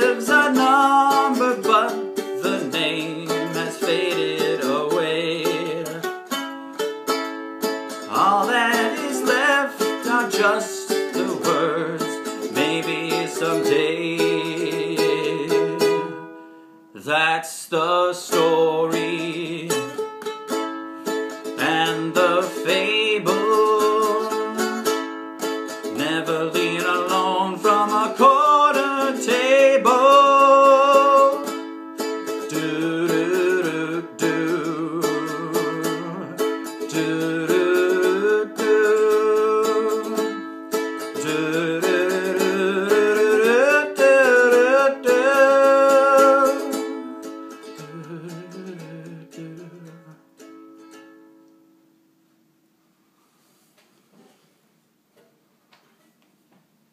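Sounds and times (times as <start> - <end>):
plucked string instrument melody: 0.0 - 17.0, 18.3 - 52.0.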